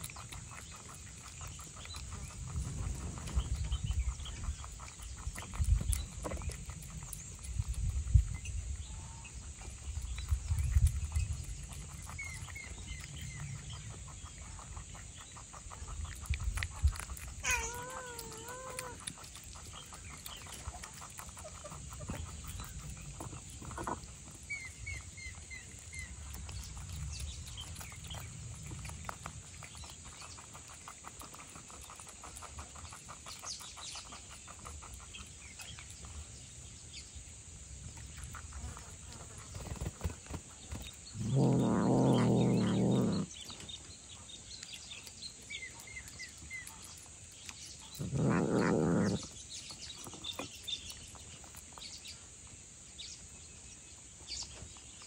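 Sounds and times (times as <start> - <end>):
animals chewing and lapping: 0.0 - 55.0.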